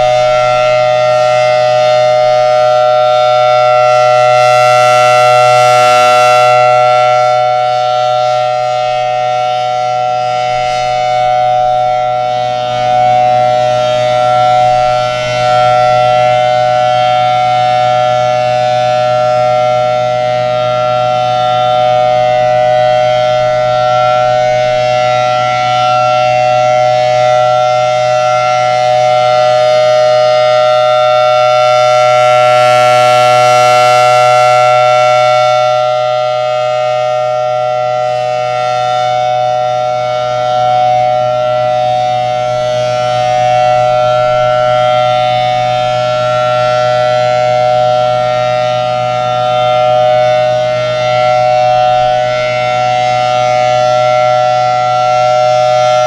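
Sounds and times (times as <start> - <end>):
tornado siren two-note chord: 0.0 - 56.0.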